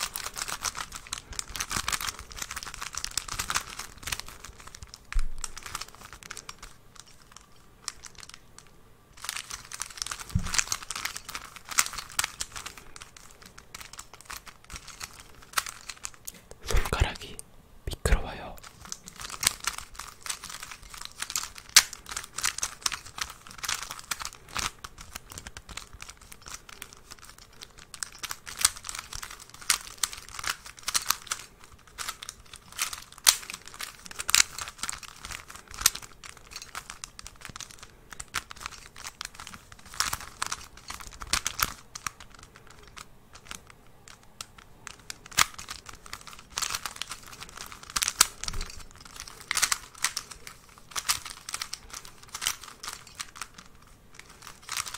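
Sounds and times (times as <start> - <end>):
crinkly material crackling: 0.0 - 17.4, 18.1 - 54.9.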